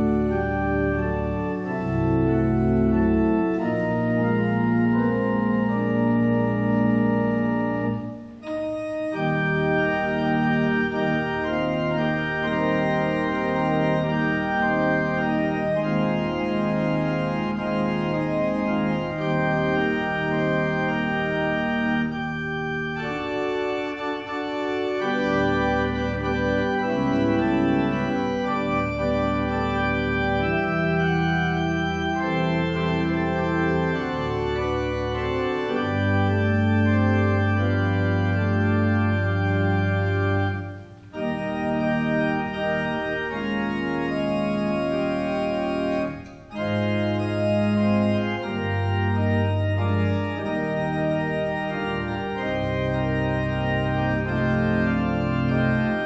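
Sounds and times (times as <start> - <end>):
church organ chords: 0.0 - 56.0
deep organ bass notes: 0.0 - 56.0.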